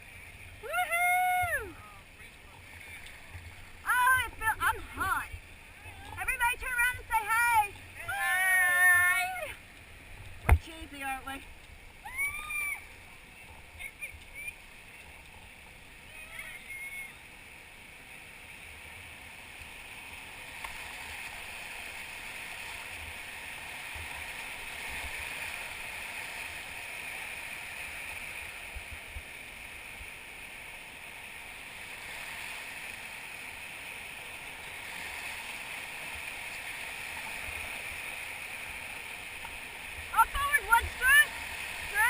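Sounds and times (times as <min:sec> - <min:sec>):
whitewater rushing: 0:00.0 - 0:18.1, 0:19.1 - 0:42.0.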